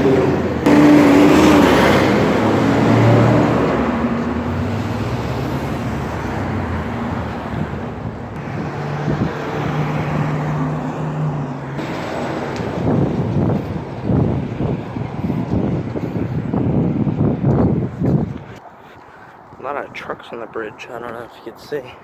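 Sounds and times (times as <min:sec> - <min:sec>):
engine humming steadily: 0:00.0 - 0:18.6
trucks and cars driving past: 0:00.0 - 0:22.0.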